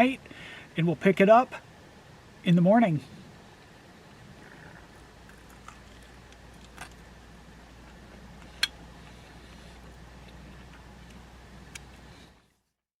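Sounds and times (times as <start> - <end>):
faint low hum: 0.0 - 12.8.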